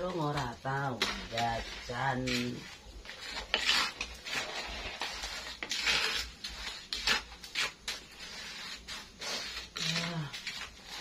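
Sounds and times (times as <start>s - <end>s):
spatula scraping a pan: 0.0s - 11.0s.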